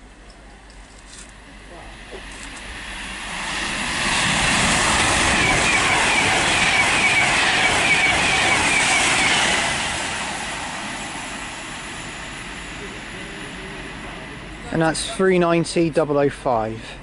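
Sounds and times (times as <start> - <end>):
electric train passing at speed: 1.3 - 17.0.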